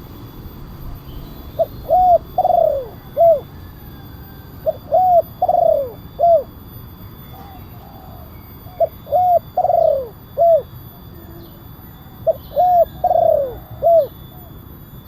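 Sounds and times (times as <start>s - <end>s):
dove cooing: 0.8s - 6.6s, 7.2s - 14.6s.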